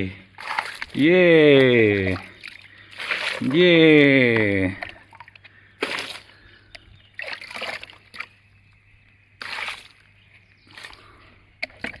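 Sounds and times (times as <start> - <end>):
water splashing and trickling: 0.0 - 8.6, 9.3 - 12.0.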